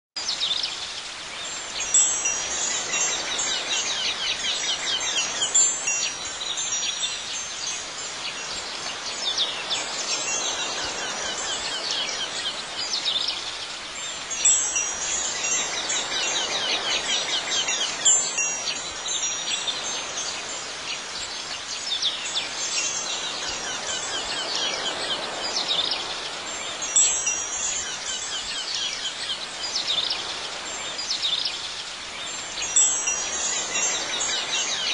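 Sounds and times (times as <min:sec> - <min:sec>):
wind chimes ringing: 0:01.4 - 0:34.9.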